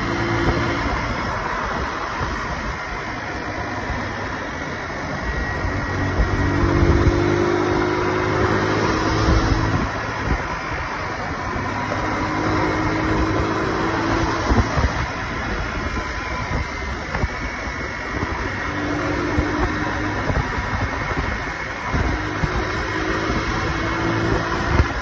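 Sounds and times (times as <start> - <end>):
motorcycle engine droning: 0.0 - 25.0
wind and road noise: 0.0 - 25.0.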